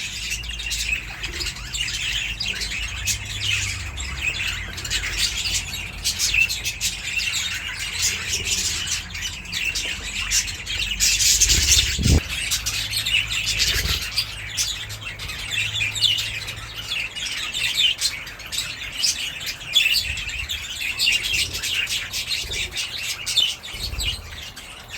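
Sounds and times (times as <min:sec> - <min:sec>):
budgerigars chattering and chirping: 0:00.0 - 0:24.9.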